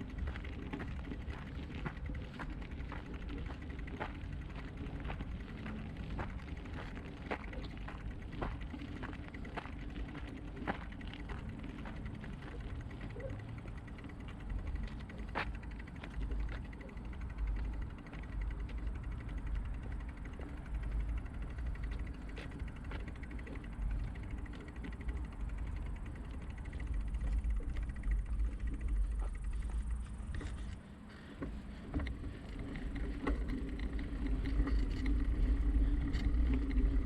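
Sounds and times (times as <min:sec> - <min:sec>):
bicycle clicks and rattles: 0:00.0 - 0:37.0
low rumble while riding: 0:00.0 - 0:37.0.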